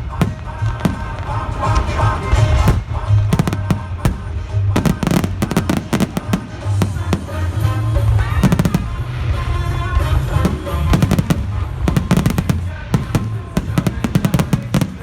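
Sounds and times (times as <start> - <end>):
fireworks bangs: 0.0 - 15.0
loud music: 0.0 - 15.0.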